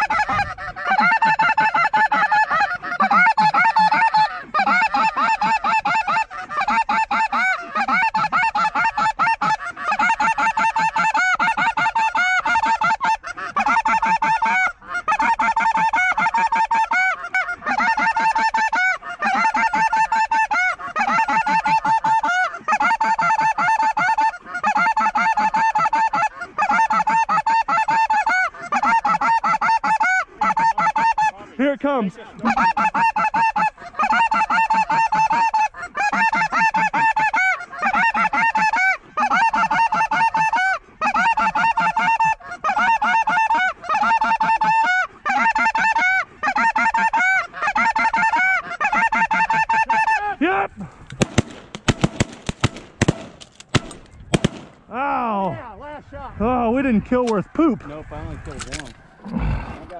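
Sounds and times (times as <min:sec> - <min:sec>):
geese honking: 0:00.0 - 0:56.0, 0:56.6 - 0:59.9.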